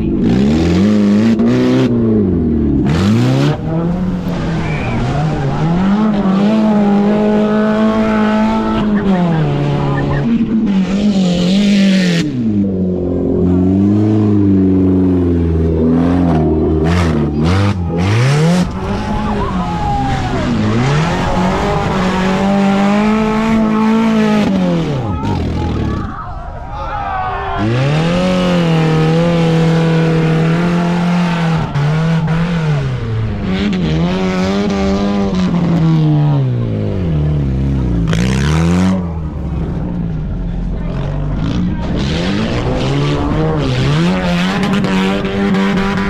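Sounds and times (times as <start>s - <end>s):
race car engine revving: 0.0s - 26.4s, 27.1s - 46.0s.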